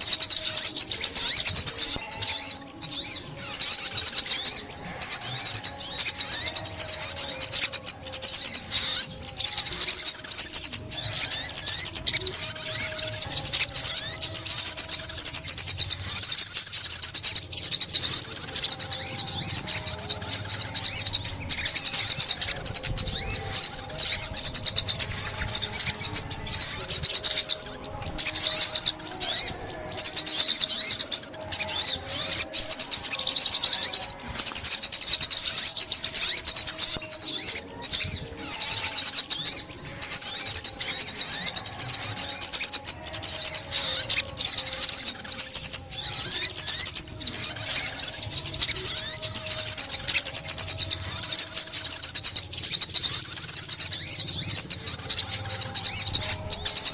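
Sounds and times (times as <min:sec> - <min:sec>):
sunbird twittering song: 0:00.0 - 0:56.9.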